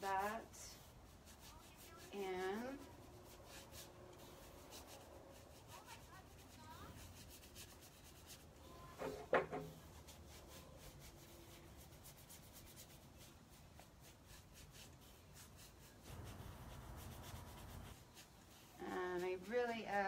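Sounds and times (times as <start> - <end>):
paintbrush rubbing on wood: 0.0 - 20.0.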